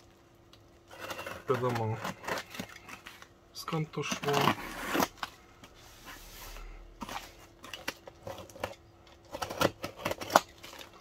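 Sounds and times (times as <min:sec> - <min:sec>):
parcel and plastic rustling: 0:00.0 - 0:11.0.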